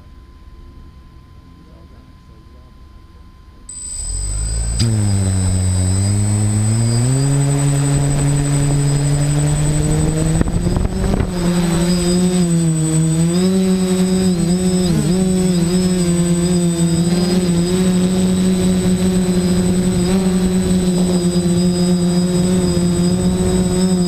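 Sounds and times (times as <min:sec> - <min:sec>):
thin high whine: 0:00.0 - 0:24.0
drone motors and propellers: 0:03.7 - 0:24.0.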